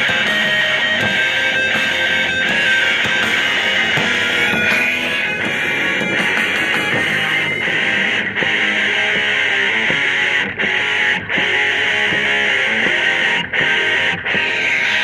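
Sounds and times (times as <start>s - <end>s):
guitar music through speaker: 0.0s - 15.0s.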